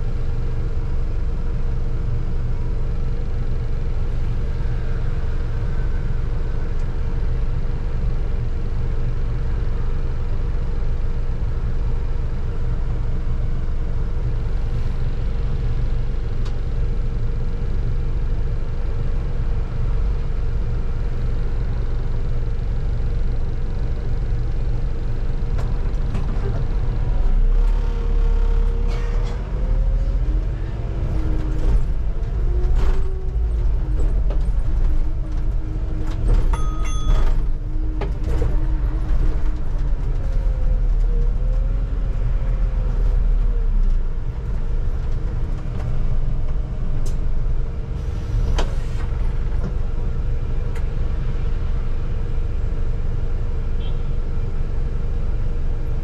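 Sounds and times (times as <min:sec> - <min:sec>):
bus engine rumble and hum: 0:00.0 - 0:56.0.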